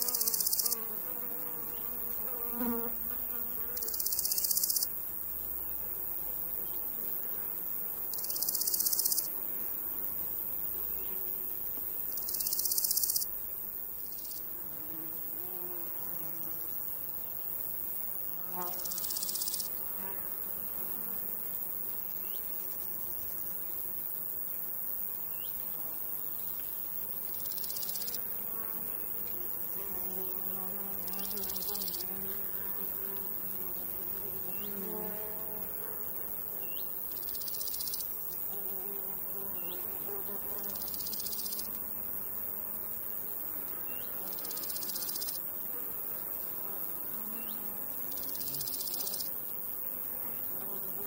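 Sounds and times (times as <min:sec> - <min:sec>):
flies and bees buzzing: 0:00.0 - 0:51.0
high-pitched chirring insect: 0:00.0 - 0:51.0.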